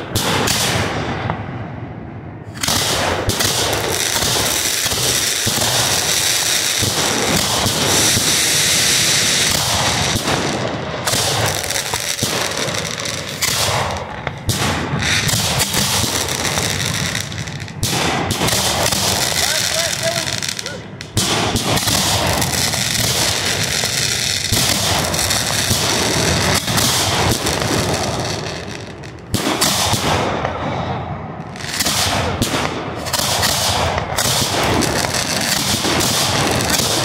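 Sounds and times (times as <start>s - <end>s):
fireworks launching and crackling: 0.0s - 37.0s.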